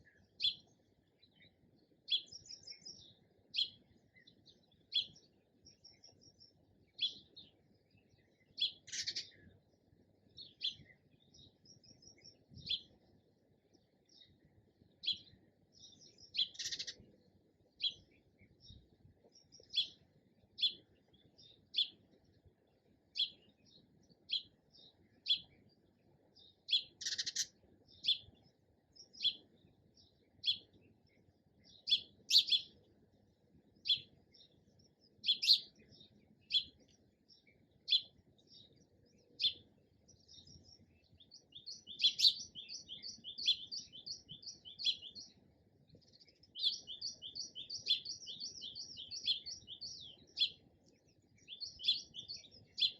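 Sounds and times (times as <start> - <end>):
sparrow chirping: 0.0 - 52.9.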